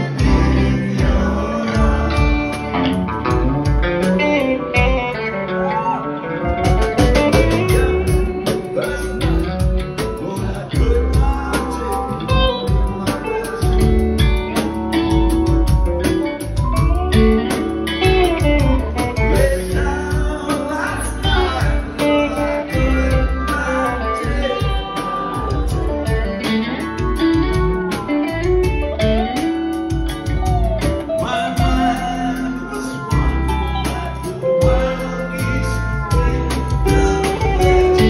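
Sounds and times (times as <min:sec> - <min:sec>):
bass: 0:00.0 - 0:38.0
drums: 0:00.0 - 0:38.0
electric guitar lead lines: 0:00.0 - 0:38.0
pedal steel guitar: 0:00.0 - 0:38.0.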